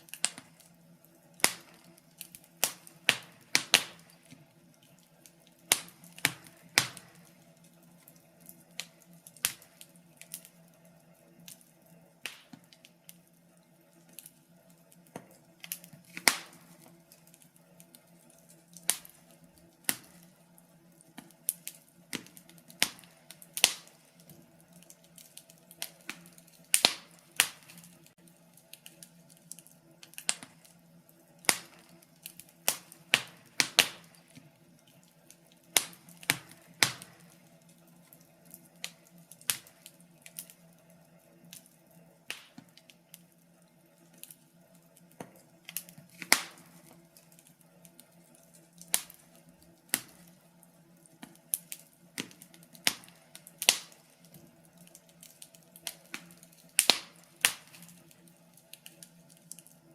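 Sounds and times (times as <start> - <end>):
faint steady hum: 0.0 - 59.9
wood fire crackling: 0.0 - 59.9.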